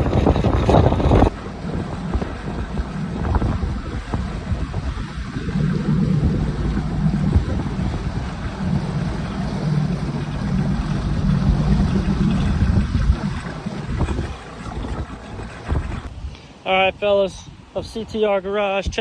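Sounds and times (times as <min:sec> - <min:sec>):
outboard boat motor running: 0:00.0 - 0:16.3
wind on microphone: 0:00.0 - 0:19.0.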